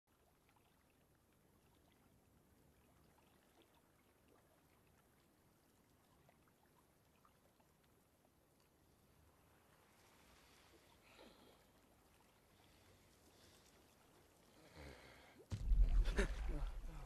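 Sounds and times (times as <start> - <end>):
water drips and trickles: 0.1 - 17.0.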